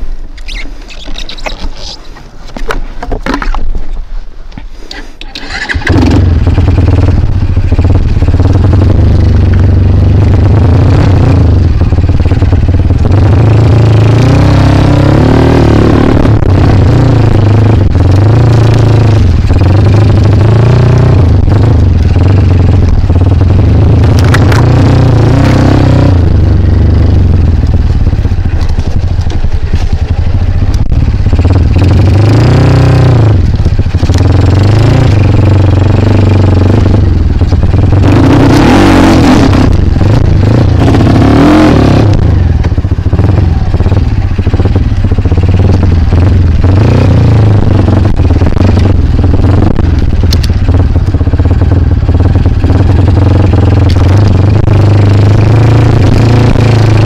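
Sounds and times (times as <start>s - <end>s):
dirt bike engine revving: 5.4s - 57.0s.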